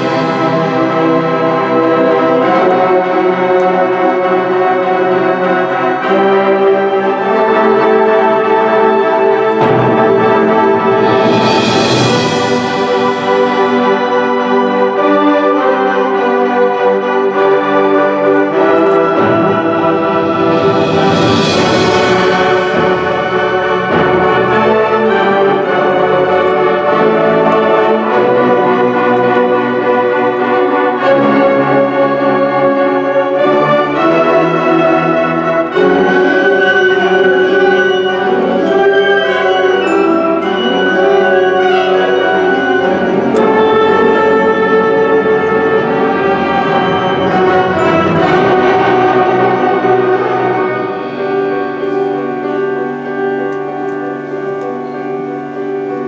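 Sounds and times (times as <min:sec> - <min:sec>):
wind band playing chords: 0:00.0 - 0:56.0.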